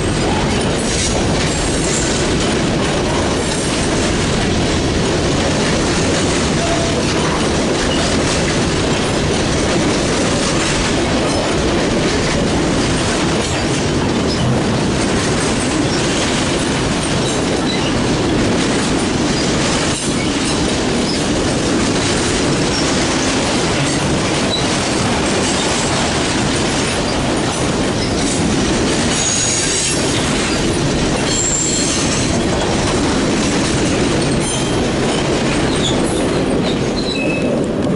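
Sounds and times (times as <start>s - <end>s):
freight train rumbling past: 0.0s - 37.9s
steel wheels clattering on rails: 0.0s - 37.9s.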